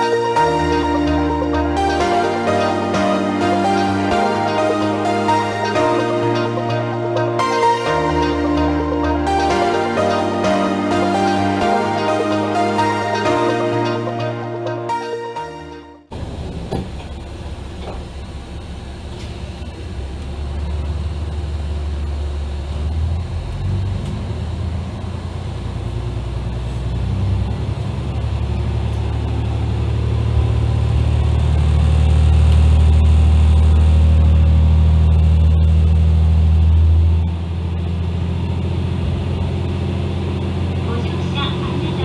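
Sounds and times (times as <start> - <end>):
diesel railcar engine drone: 0.0 - 42.0.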